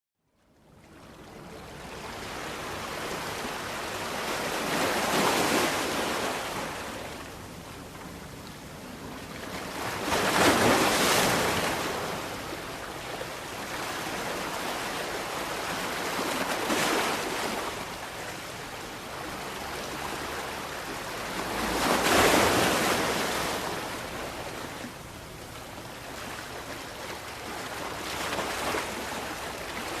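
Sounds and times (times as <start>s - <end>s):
sea waves surging: 1.3s - 30.0s
surf hiss: 1.3s - 30.0s.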